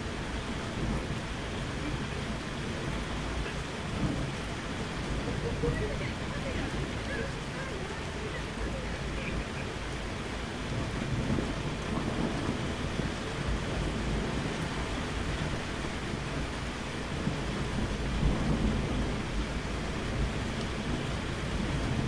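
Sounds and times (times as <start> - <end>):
rolling thunder: 0.0 - 22.0
steady rainfall: 0.0 - 22.0.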